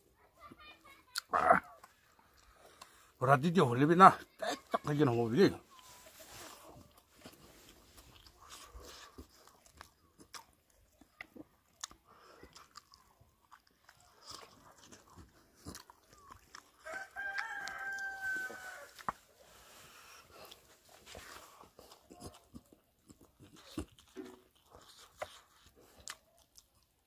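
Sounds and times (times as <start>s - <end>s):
person chewing and crunching: 1.0s - 3.2s, 4.1s - 27.0s.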